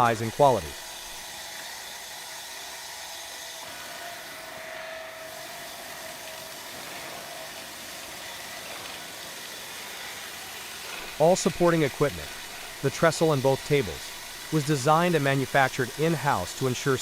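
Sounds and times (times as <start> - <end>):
sawmill machinery hum: 0.0 - 17.0.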